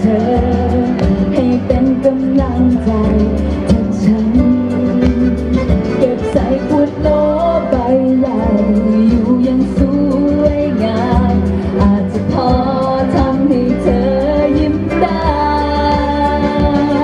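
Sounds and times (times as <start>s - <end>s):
backing music: 0.0s - 17.0s
woman singing pop ballad: 0.0s - 17.0s.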